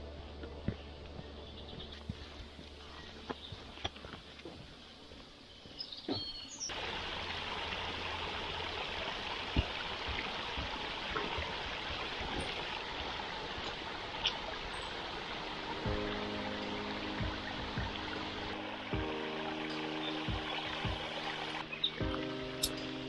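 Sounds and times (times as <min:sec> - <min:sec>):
stream running: 0:00.0 - 0:23.0.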